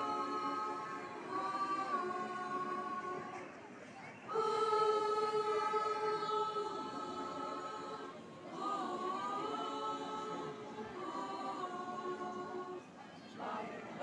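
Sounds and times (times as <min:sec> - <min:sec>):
school choir singing unaccompanied: 0:00.0 - 0:14.0.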